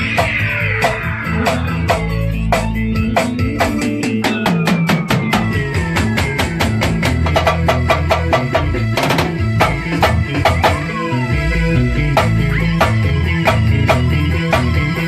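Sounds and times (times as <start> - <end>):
band playing: 0.0 - 15.0
drum kit beat: 0.0 - 15.0.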